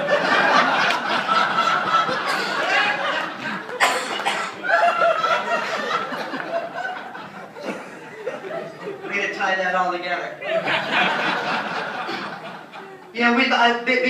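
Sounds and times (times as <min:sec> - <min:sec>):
roomful of people laughing: 0:00.0 - 0:13.2.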